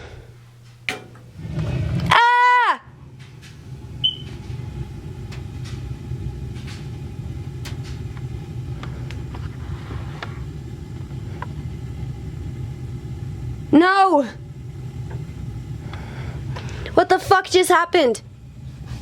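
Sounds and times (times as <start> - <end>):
gas burner rumbling: 0.0 - 19.0.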